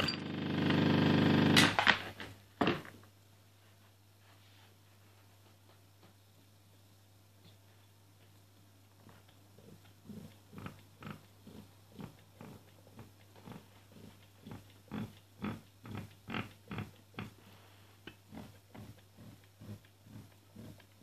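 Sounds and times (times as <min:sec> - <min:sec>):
steady low hum: 0:02.4 - 0:21.0.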